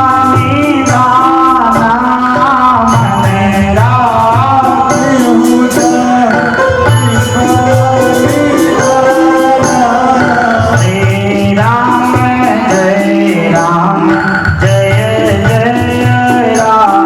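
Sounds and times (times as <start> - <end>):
hand drum beat: 0.0 - 17.0
held instrumental notes: 0.0 - 17.0
person singing: 0.0 - 17.0.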